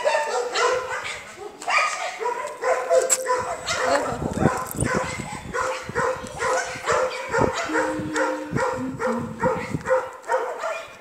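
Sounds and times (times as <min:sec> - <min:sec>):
dogs barking: 0:00.0 - 0:11.0.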